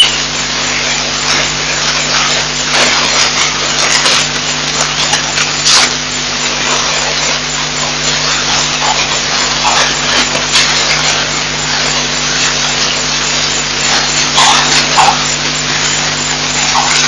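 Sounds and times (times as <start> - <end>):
electrical hum: 0.0 - 17.0
rushing noise on microphone: 0.0 - 17.0.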